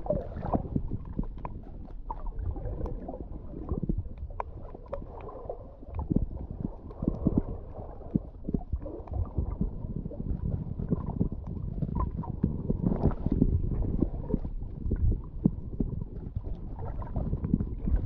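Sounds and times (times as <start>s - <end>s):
underwater rumbling and gurgling: 0.0s - 18.0s.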